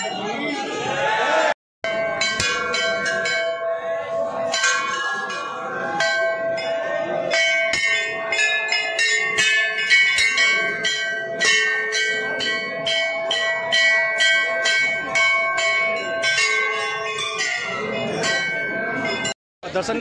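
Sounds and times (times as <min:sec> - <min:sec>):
brass bells ringing: 0:01.8 - 0:19.4.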